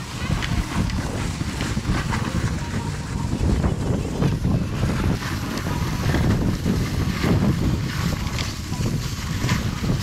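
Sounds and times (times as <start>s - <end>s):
sled bumps and scrapes: 0.0s - 10.0s
sled sliding on snow: 0.0s - 10.0s
wind buffeting microphone: 0.0s - 10.0s.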